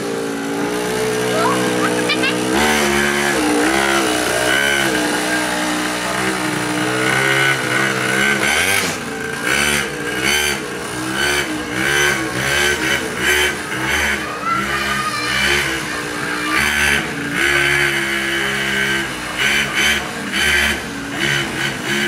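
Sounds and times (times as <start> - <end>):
small engine revving: 0.0 - 22.0.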